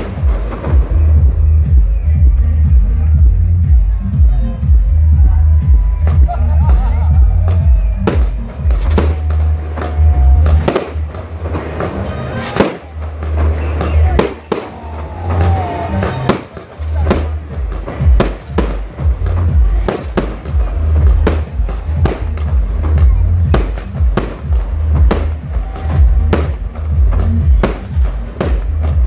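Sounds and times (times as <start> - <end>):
fireworks exploding: 0.0 - 1.8, 6.0 - 29.0
music with heavy bass beat: 0.0 - 29.0.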